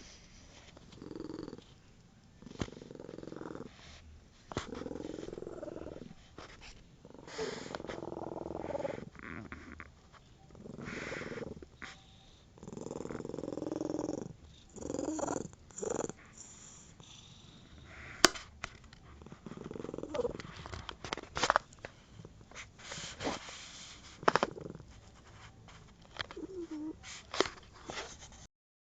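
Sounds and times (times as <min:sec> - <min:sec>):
cat purring: 0:00.0 - 0:18.3, 0:18.9 - 0:20.9, 0:21.9 - 0:27.3.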